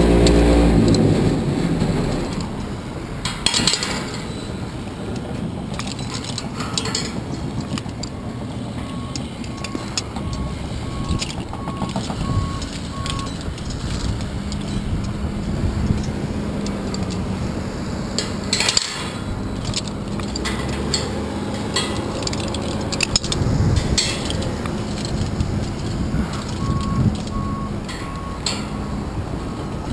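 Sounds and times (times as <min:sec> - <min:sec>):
wind rushing over microphone: 0:00.0 - 0:18.6, 0:19.2 - 0:29.9
metal clinks and knocks: 0:02.2 - 0:17.4, 0:18.2 - 0:29.9.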